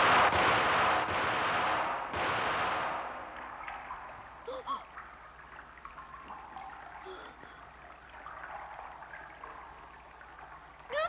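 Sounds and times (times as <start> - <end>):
churning running water: 0.0 - 11.0.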